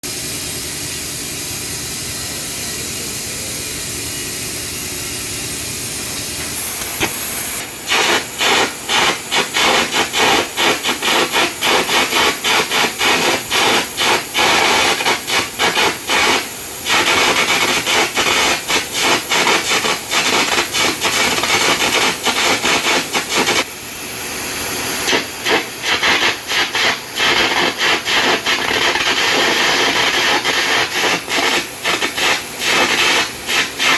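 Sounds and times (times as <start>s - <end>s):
compressed air jet hissing: 0.0s - 33.9s
arc crackling: 2.4s - 23.7s, 25.1s - 33.9s.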